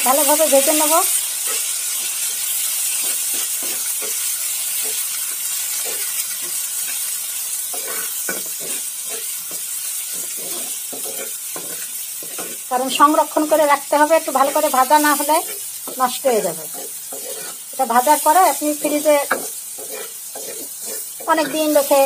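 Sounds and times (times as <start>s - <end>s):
vegetables sizzling in oil: 0.0s - 22.0s
metal spatula scraping a pan: 0.6s - 12.7s, 14.4s - 22.0s.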